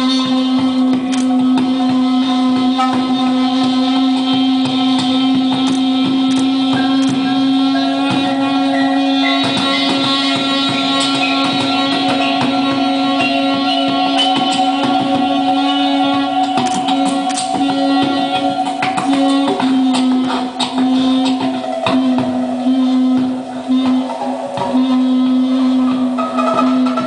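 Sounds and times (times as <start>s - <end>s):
low drone note: 0.0s - 27.0s
sustained tones: 0.0s - 27.0s.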